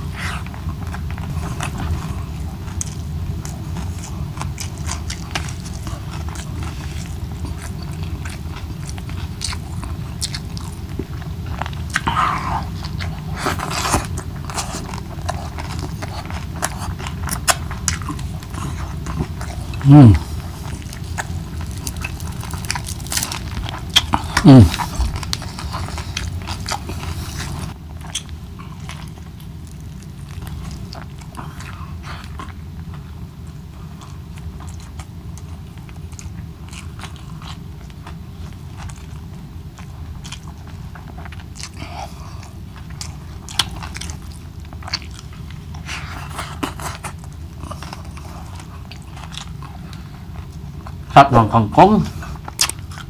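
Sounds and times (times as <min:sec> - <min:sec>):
crisp chewing and biting: 0:00.0 - 0:51.1, 0:52.0 - 0:53.0
steady low hum: 0:00.0 - 0:53.0.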